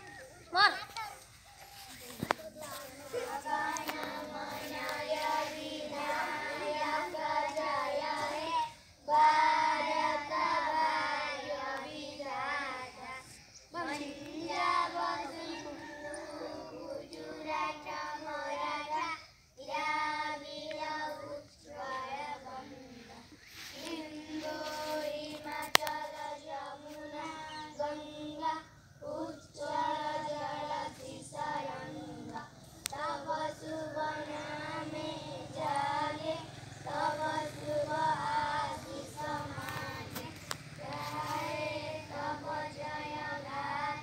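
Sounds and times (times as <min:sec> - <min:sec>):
children singing together: 0:01.4 - 0:44.0.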